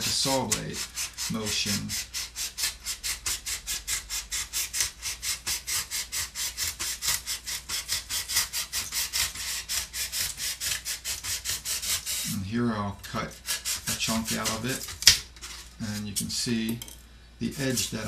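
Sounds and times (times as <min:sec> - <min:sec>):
knife sawing through foam: 0:00.0 - 0:12.4, 0:13.1 - 0:16.2, 0:17.5 - 0:18.0.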